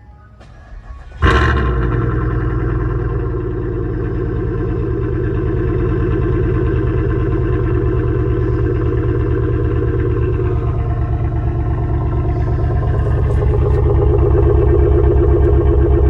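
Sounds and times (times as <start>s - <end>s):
car engine starting and idling: 0.0s - 16.0s.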